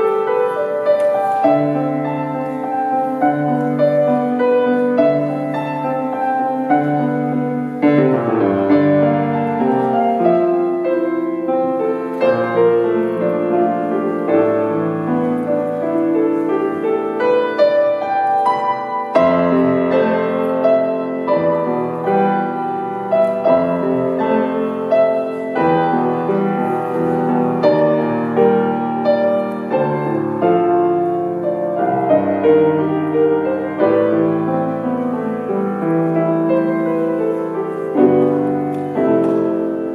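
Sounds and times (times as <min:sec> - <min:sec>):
solo grand piano: 0:00.0 - 0:39.9.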